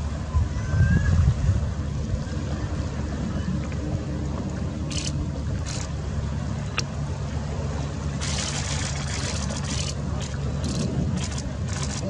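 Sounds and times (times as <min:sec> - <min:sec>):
motorboat engine humming: 0:01.3 - 0:12.0.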